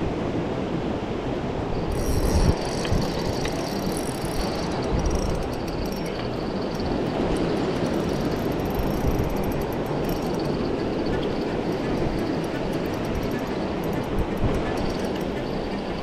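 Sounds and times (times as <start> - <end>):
wind rumbling on microphone: 0.0 - 16.0
fishing reel whirring and ticking: 1.9 - 16.0.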